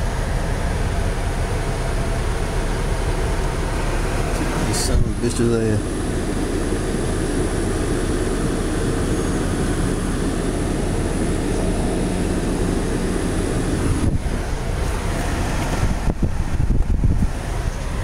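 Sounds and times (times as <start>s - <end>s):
car engine rumble inside cabin: 0.0s - 18.0s
ventilation fan: 0.0s - 18.0s.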